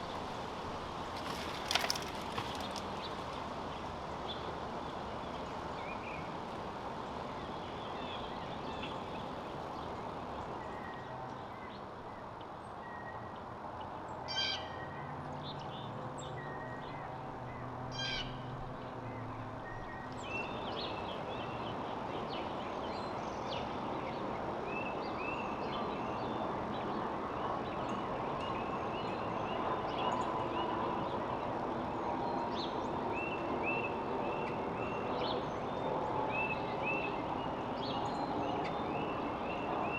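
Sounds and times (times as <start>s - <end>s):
steady outdoor background hum: 0.0s - 39.9s.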